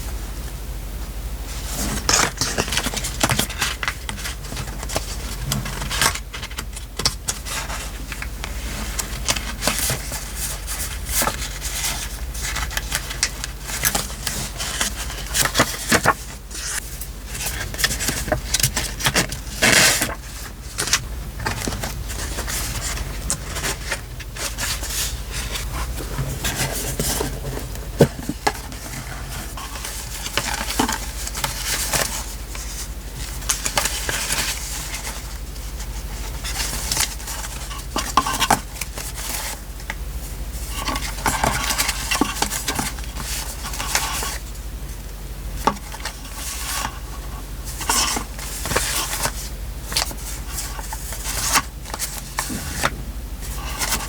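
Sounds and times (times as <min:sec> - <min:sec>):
steady low hum: 0:00.0 - 0:54.0
paper rustling and crackling: 0:01.6 - 0:45.0, 0:45.6 - 0:54.0.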